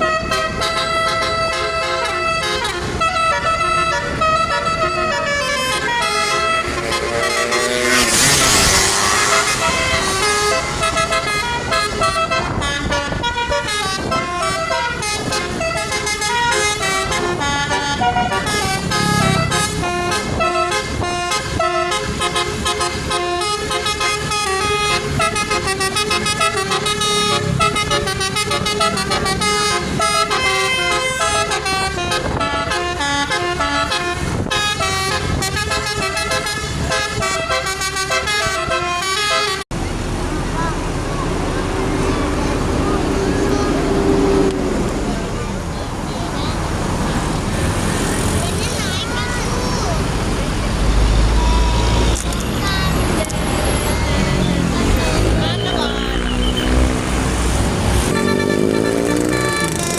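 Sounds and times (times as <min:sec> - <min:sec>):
multi-trumpet bus horn tune: 0:00.0 - 0:39.7, 0:51.0 - 0:59.9.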